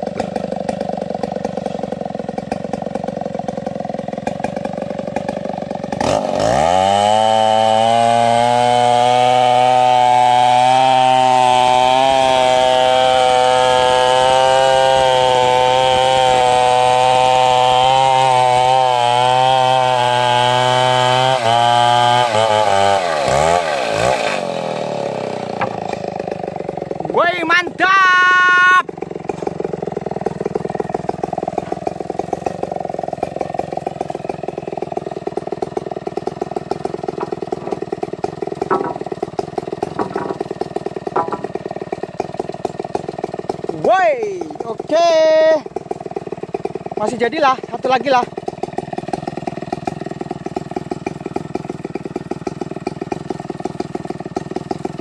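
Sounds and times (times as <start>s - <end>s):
chainsaw engine: 0.0s - 55.0s
chainsaw ripping wood: 0.0s - 55.0s.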